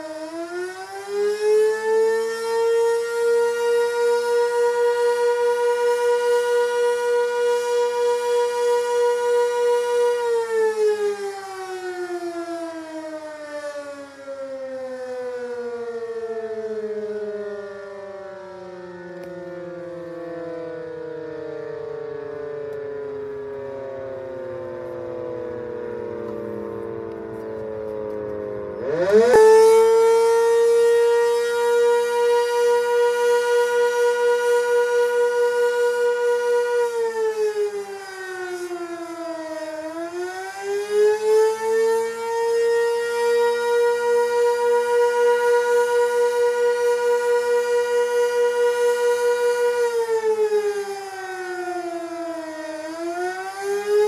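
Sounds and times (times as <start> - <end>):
warning siren wailing: 0.0 - 54.0.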